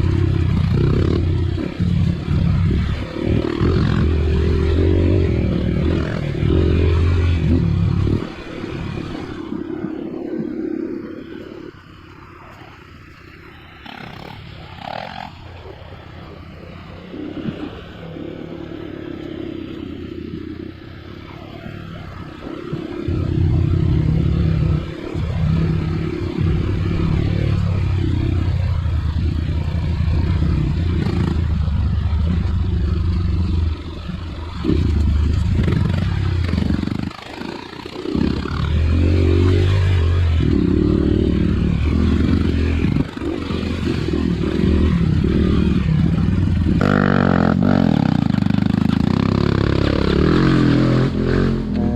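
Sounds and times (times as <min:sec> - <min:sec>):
motorcycle engine revving: 0:00.0 - 0:11.4, 0:13.7 - 0:51.9.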